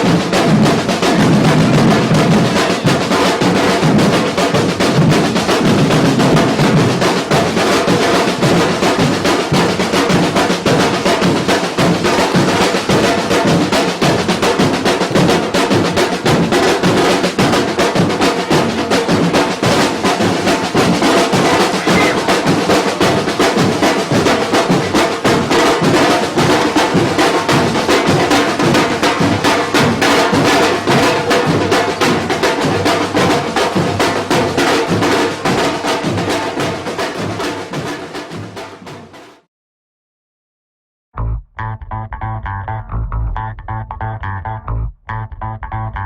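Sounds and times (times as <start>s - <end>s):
percussion ensemble drumming: 0.0s - 39.5s.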